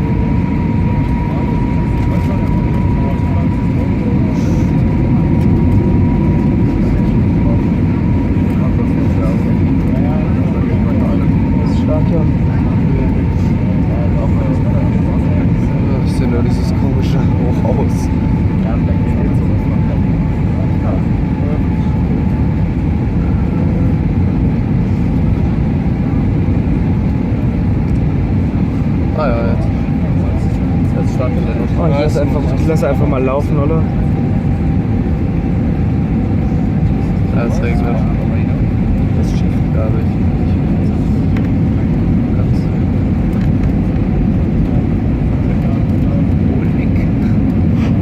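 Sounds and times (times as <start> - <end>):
airplane cabin airflow and engine noise: 0.0 - 48.0.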